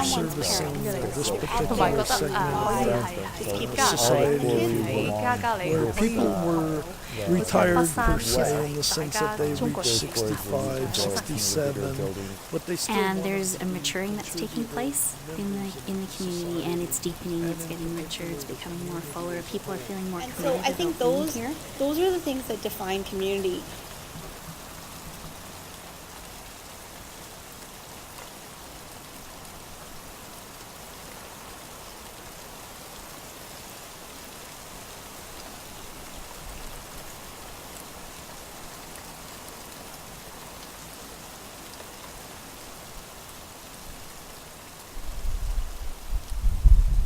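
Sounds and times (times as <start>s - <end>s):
rain falling: 0.0s - 47.0s.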